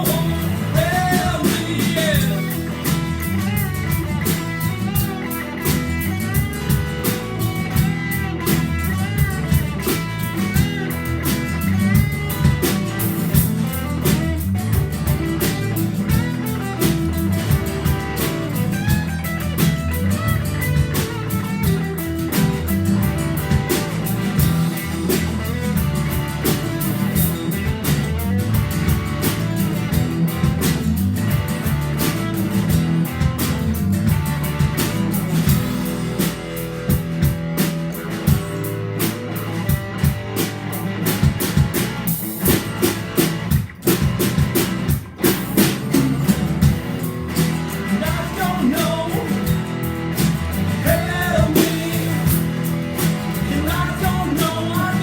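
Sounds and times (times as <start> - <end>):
bass guitar: 0.0 - 55.0
drum kit steady beat: 0.0 - 55.0
electric guitars bending lead notes: 0.0 - 55.0.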